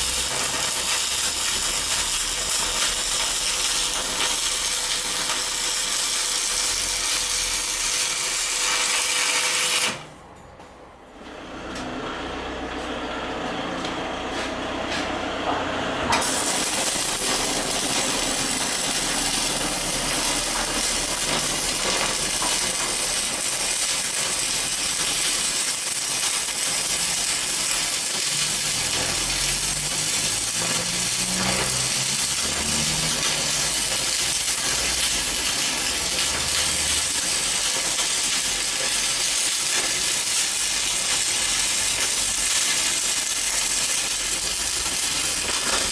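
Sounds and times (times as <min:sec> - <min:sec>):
belt grinder running: 0:00.0 - 0:10.0, 0:16.2 - 0:45.9.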